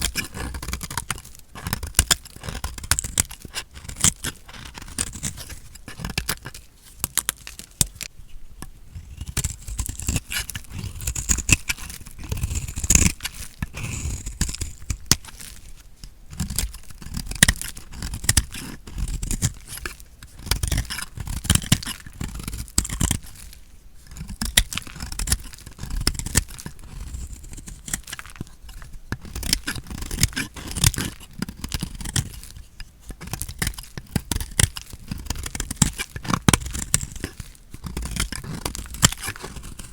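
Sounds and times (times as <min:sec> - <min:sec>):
blade cutting through soap: 0:00.0 - 0:07.6, 0:08.9 - 0:15.6, 0:16.3 - 0:39.9.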